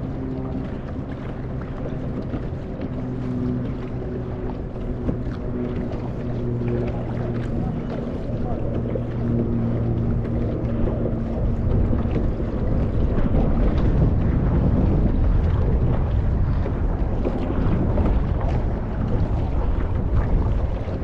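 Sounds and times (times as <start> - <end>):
low motor hum: 0.0 - 21.0
paddle dipping and dripping: 0.0 - 21.0
water washing: 0.0 - 21.0
wind buffeting microphone: 0.0 - 21.0.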